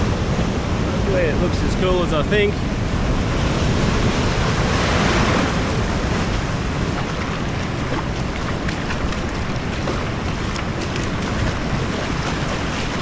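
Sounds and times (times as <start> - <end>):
surf on rocky shore: 0.0 - 13.0
wind buffeting microphone: 0.0 - 13.0.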